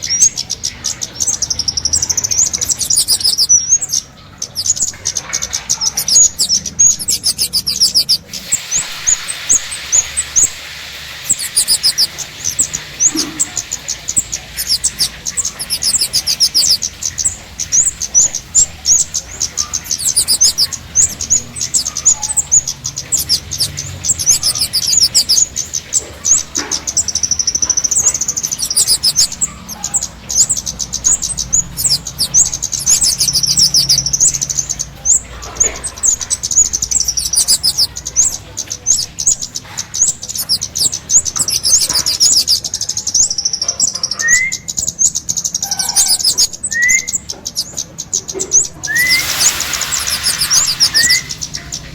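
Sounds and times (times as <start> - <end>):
songbird chirping trills: 0.0 - 51.9.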